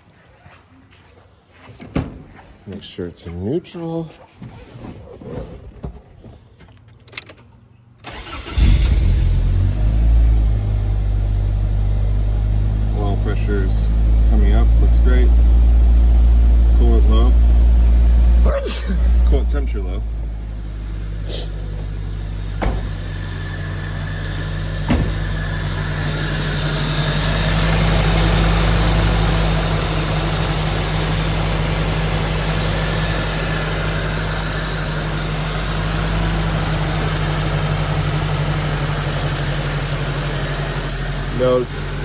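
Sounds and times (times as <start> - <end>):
car engine idling: 8.0 - 42.0.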